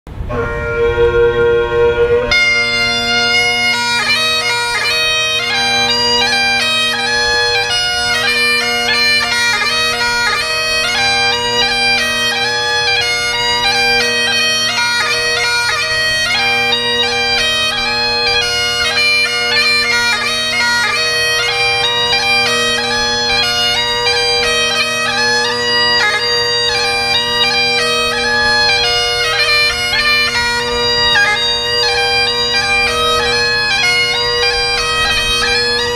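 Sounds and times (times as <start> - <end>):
bagpipes playing melody: 0.2 - 35.9.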